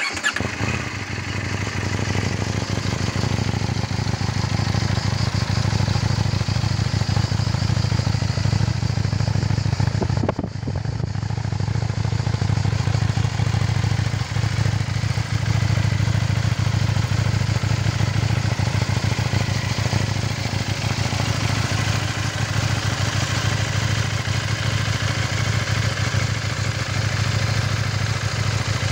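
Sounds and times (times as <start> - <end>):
motorcycle engine idling: 0.0 - 28.9.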